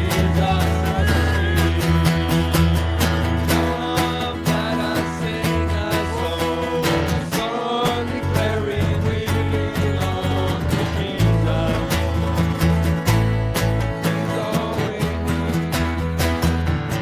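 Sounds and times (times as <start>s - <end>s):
man singing: 0.0s - 13.0s, 14.0s - 16.2s
strummed acoustic guitars: 0.0s - 17.0s.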